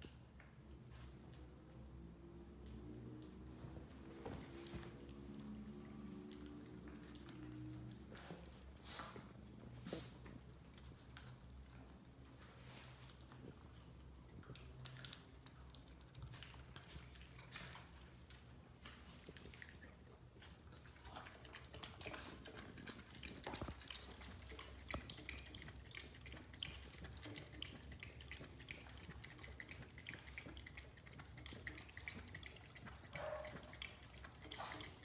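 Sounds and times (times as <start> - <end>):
dog eating and lapping from bowl: 0.6 - 35.0.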